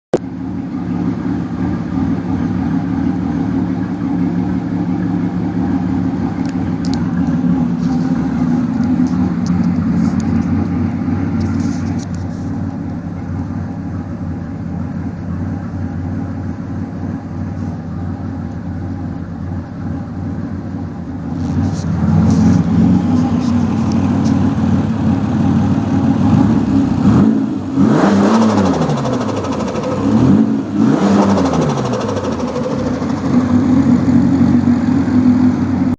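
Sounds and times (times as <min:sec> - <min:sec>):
turbocharged car engine idling: 0:00.1 - 0:35.9
engine revving: 0:00.2 - 0:14.2, 0:19.9 - 0:35.9.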